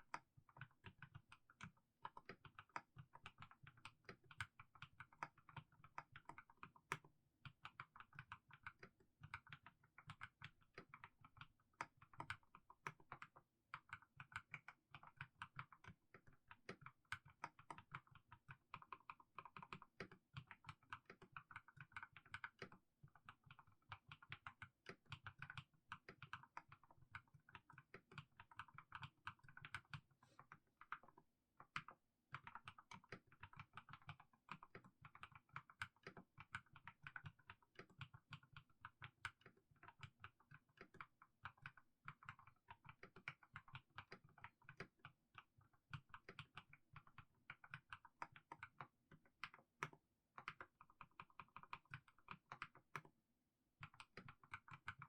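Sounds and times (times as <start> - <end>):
typing on mechanical keyboard: 7.6 - 53.1, 53.8 - 55.0.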